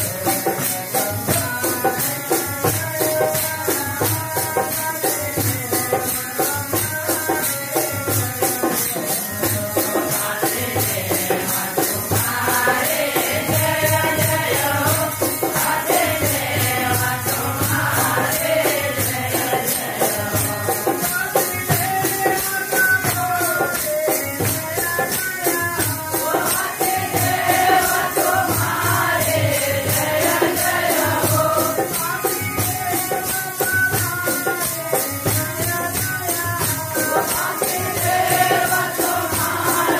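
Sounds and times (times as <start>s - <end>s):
jingling hand percussion: 0.0s - 39.9s
voices singing: 0.0s - 39.9s.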